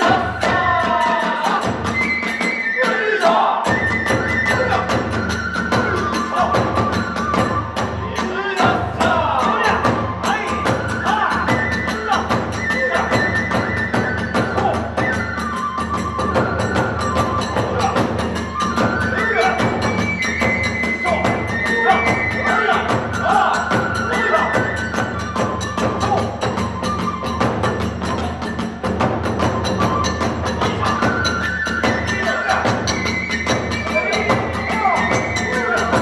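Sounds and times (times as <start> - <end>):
bamboo flute melody: 0.0 - 36.0
drums beating: 0.0 - 36.0.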